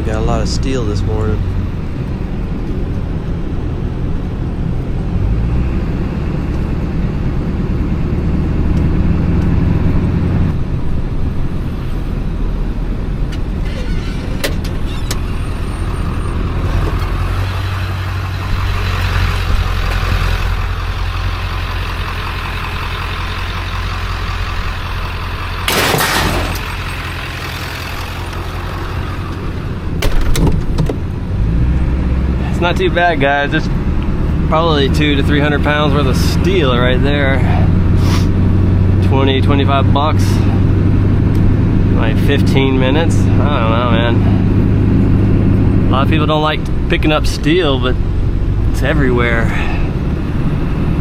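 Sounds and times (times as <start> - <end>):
road noise: 0.0 - 51.0
vehicle engine running: 0.0 - 51.0.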